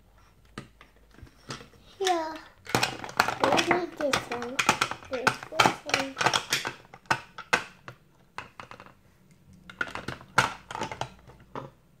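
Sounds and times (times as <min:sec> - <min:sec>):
plastic toys clacking together: 0:00.5 - 0:09.0, 0:09.6 - 0:11.8.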